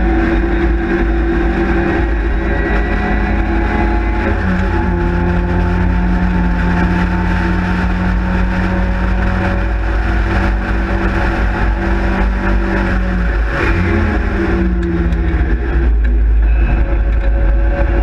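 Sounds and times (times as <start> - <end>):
race car engine at high revs: 0.0 - 18.0
wind and road noise: 0.0 - 18.0.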